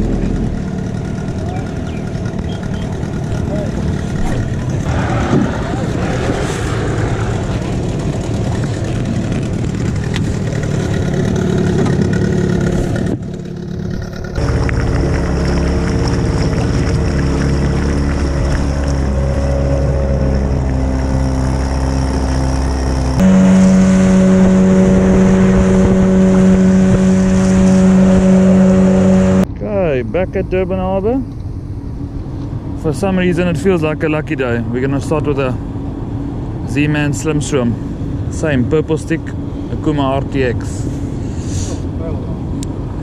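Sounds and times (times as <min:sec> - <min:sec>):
outboard motor droning: 0:00.0 - 0:43.0.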